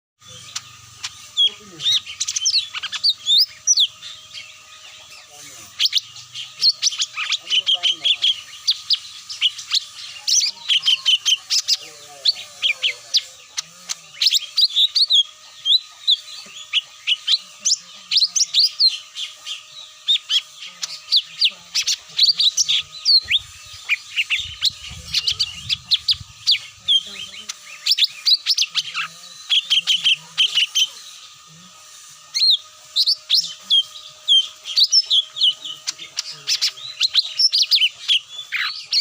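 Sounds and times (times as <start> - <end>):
birds chirping: 0.2 - 39.0.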